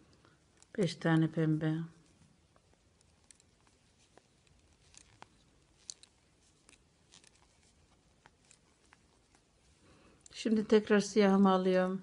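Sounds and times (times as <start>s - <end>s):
knitting needles clicking: 0.0s - 10.8s.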